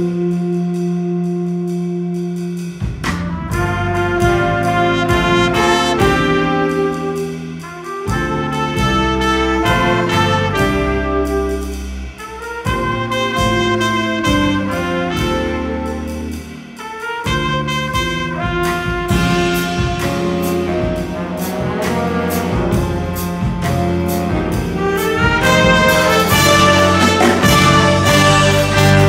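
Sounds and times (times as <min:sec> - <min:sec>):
drum and cymbal hits: 0:00.0 - 0:29.0
jazz big band playing: 0:00.0 - 0:29.0.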